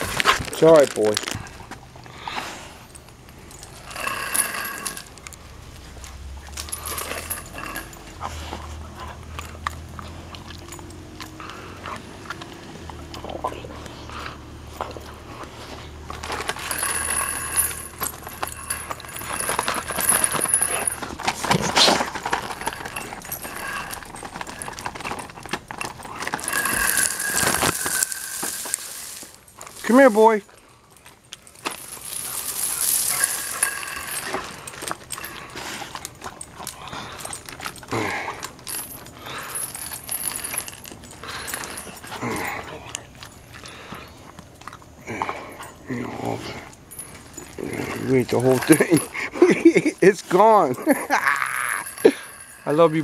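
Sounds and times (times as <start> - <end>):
metal chain leash clinking: 0.0 - 53.0.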